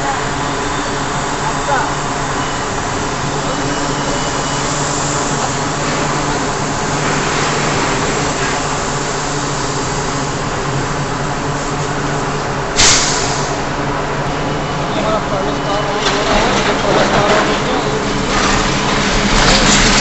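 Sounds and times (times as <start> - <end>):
industrial machinery noise: 0.0 - 20.0.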